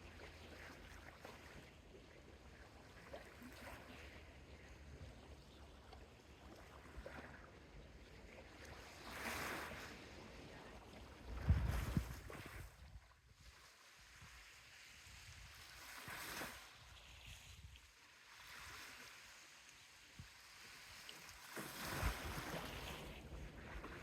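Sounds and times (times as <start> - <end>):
sea waves lapping on beach: 0.0 - 24.0.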